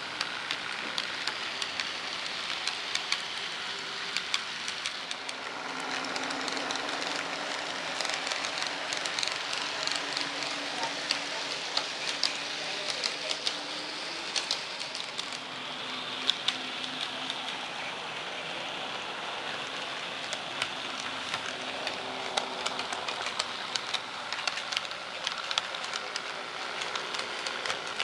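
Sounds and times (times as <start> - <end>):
model train running hiss: 0.0 - 28.0
wheels clicking on rails: 0.0 - 28.0.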